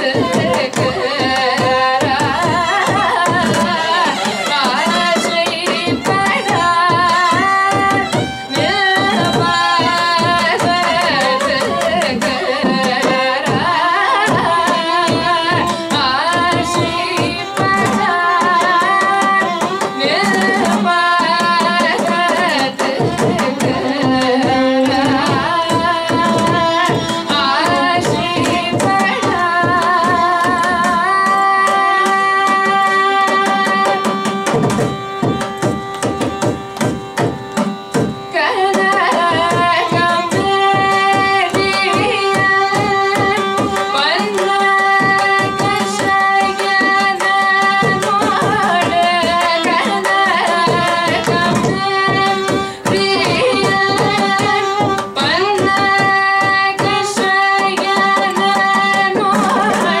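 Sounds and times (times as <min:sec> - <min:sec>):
hand drum strokes: 0:00.0 - 1:00.0
violin: 0:00.0 - 1:00.0
woman singing: 0:00.0 - 1:00.0.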